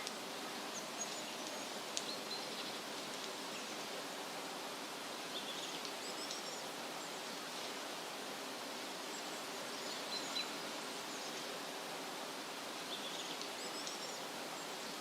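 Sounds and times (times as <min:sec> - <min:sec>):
wind rustling leafy trees: 0:00.0 - 0:15.0.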